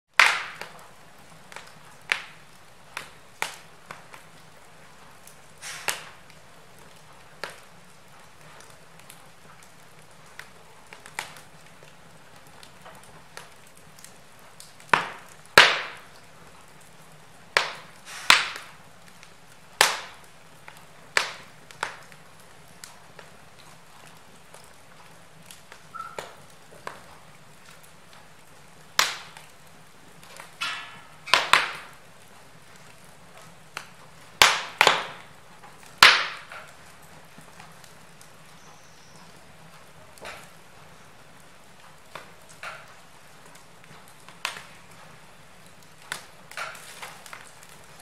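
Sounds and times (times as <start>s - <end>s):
wood fire crackling: 0.1s - 48.0s.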